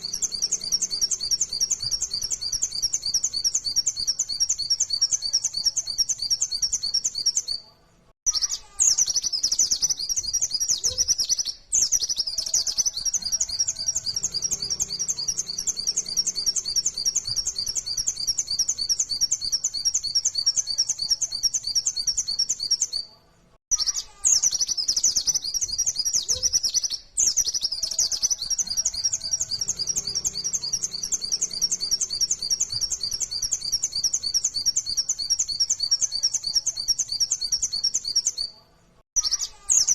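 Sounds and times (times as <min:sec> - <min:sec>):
bird high chattering song: 0:00.0 - 0:07.7, 0:08.3 - 0:23.1, 0:23.7 - 0:38.6, 0:39.2 - 0:39.9.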